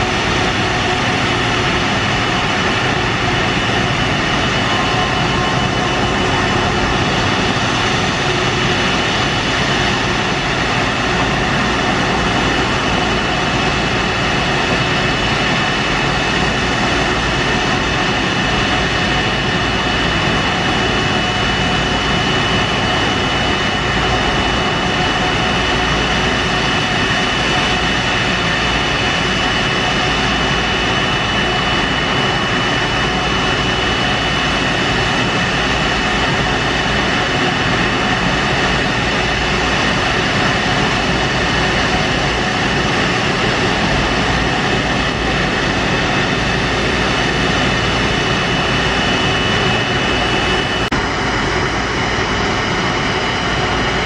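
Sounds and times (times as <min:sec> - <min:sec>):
jet engine roar with whine: 0:00.0 - 0:54.0.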